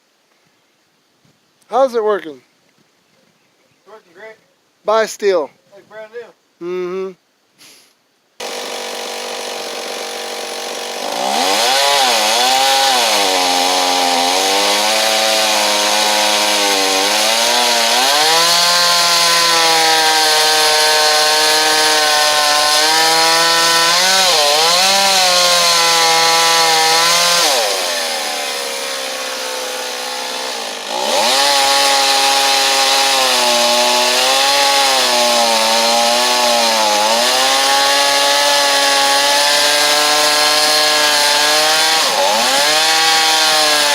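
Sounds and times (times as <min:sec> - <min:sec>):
chainsaw cutting hardwood: 0:08.4 - 0:43.9.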